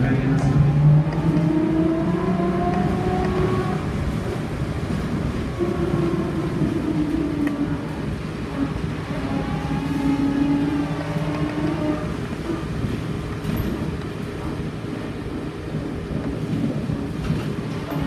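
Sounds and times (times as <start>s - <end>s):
electric traction drive whining: 0.0s - 18.0s
road rumble: 0.0s - 18.0s.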